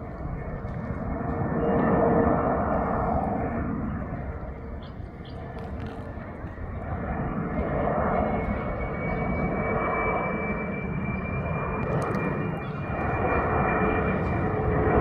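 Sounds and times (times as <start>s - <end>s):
airliner flying over: 0.0s - 15.0s.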